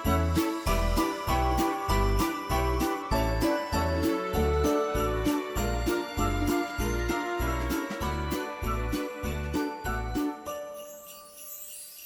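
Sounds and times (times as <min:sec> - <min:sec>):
christmas sleigh rattles shaking: 0:00.0 - 0:12.0.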